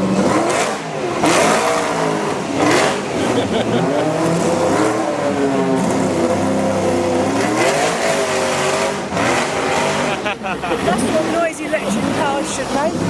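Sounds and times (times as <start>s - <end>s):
racing car engine revving: 0.0s - 13.0s.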